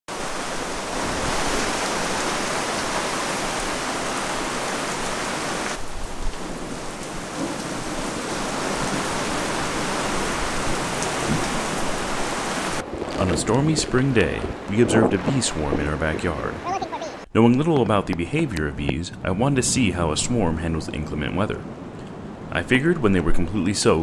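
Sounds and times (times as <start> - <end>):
heavy rain falling: 0.1 - 21.8.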